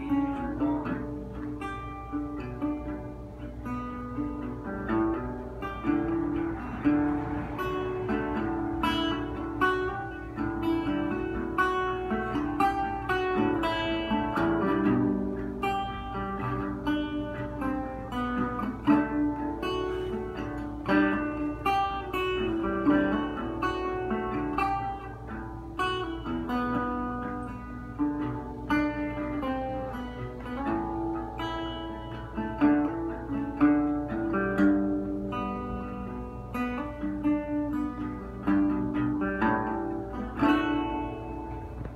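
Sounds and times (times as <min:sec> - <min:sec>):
resonator guitar playing: 0:00.0 - 0:41.9.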